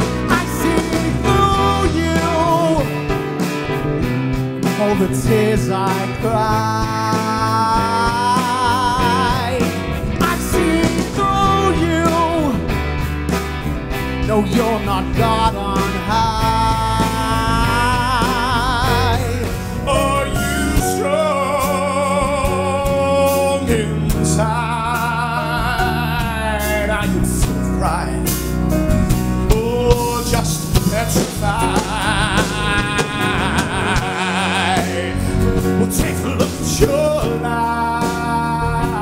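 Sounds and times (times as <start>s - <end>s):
man singing with vibrato: 0.0s - 3.2s, 4.6s - 12.8s, 14.2s - 28.5s, 29.4s - 39.0s
rock band playing: 0.0s - 39.0s.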